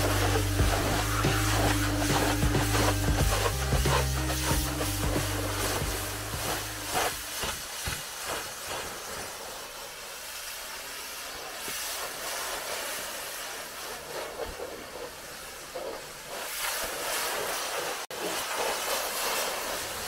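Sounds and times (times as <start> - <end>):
pressure washer spraying: 0.0 - 20.0.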